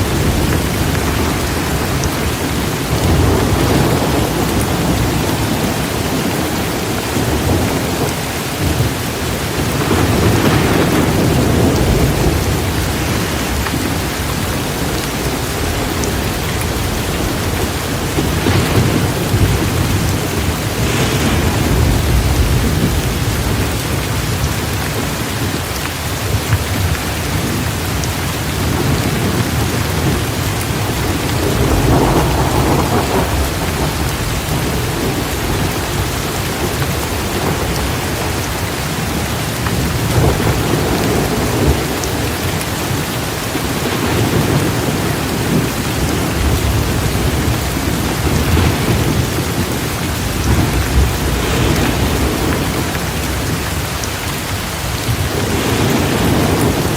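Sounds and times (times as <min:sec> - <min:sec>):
rolling thunder: 0:00.0 - 0:56.9
torrential rain pouring: 0:00.0 - 0:56.9.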